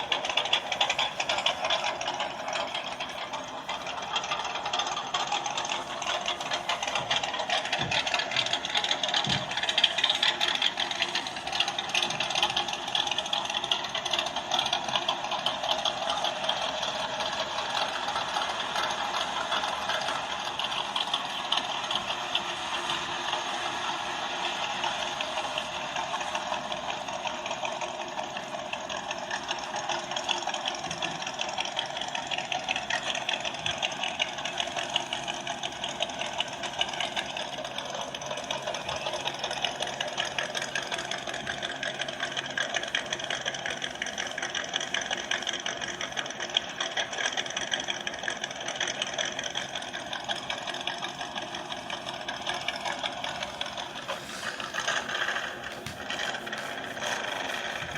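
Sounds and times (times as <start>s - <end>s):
engine running with rattle: 0.0s - 57.9s.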